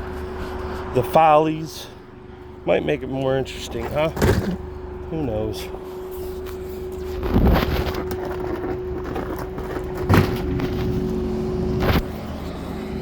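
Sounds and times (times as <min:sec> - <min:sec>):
forklift engine humming: 0:00.0 - 0:13.0.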